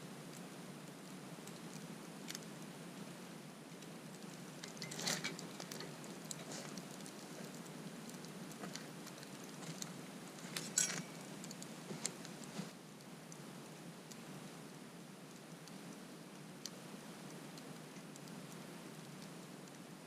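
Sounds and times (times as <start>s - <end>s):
campfire crackling and popping: 0.0s - 20.0s
low steady hiss: 0.0s - 20.0s.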